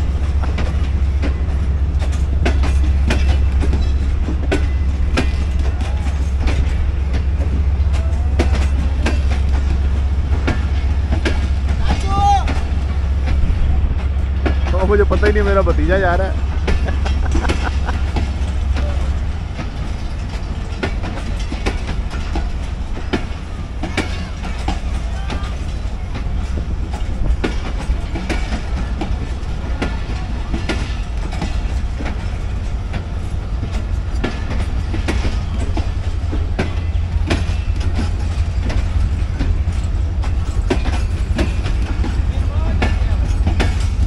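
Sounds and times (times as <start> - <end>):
train rumble: 0.0 - 44.0
train wheels clicking over rail joints: 0.0 - 44.0.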